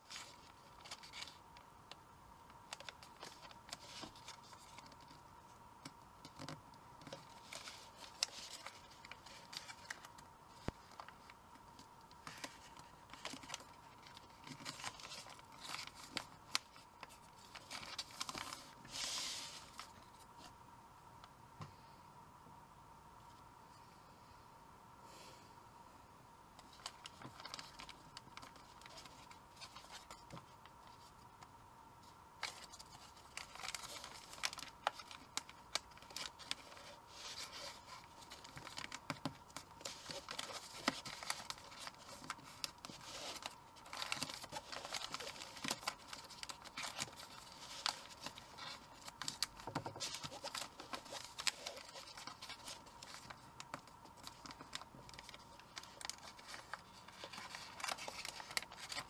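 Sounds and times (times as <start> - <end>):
paper rustling and crinkling: 0.0 - 2.0, 2.7 - 5.2, 6.2 - 20.6, 26.6 - 31.4, 32.4 - 59.0
faint high hum: 0.0 - 59.0.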